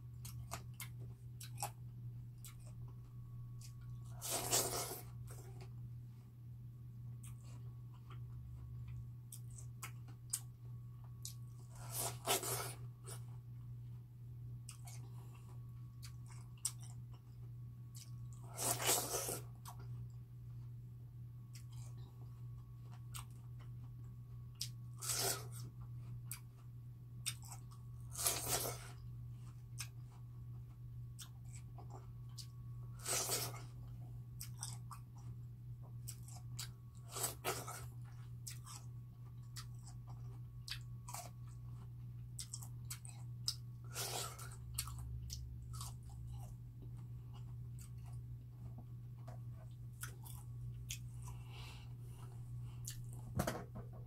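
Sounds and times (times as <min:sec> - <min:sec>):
biting and chewing watermelon: 0:00.0 - 0:05.8, 0:07.2 - 0:13.6, 0:14.6 - 0:20.7, 0:21.5 - 0:53.4.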